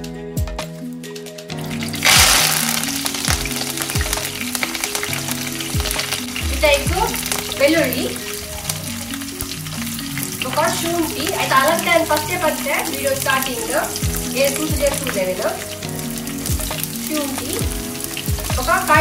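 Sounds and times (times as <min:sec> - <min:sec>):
background music: 0:00.0 - 0:19.0
food sizzling in hot oil: 0:01.6 - 0:19.0.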